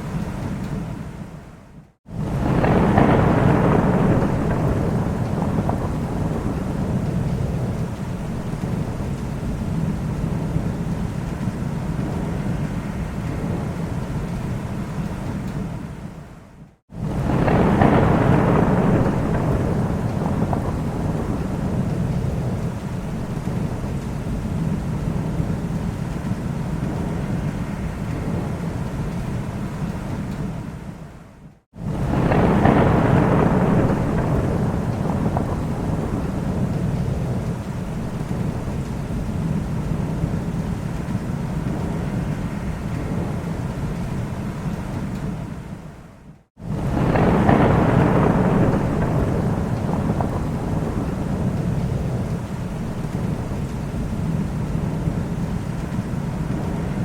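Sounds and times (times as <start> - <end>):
rain: 0.0 - 57.0
thunder rumbling: 2.1 - 57.0.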